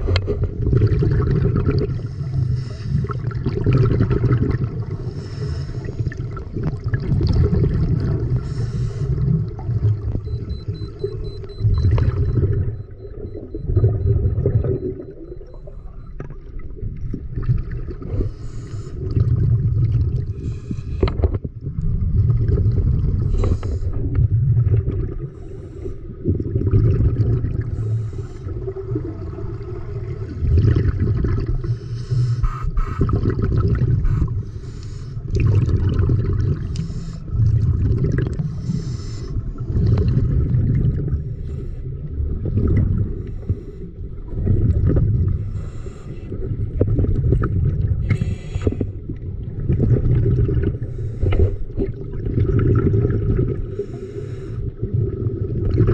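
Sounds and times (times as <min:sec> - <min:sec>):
underwater rushing rumble: 0:00.0 - 0:05.1, 0:06.0 - 0:15.8, 0:19.0 - 0:20.7, 0:21.4 - 0:25.4, 0:26.2 - 0:34.7, 0:37.3 - 0:38.8, 0:39.4 - 0:53.9.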